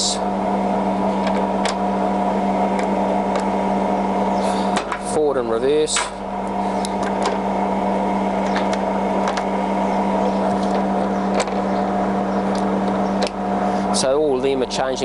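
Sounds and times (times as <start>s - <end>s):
lathe running with steady hum: 0.0s - 15.0s.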